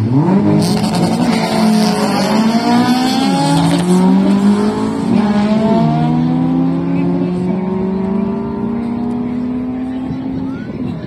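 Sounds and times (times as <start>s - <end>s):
racing car engine at full throttle: 0.0s - 11.0s.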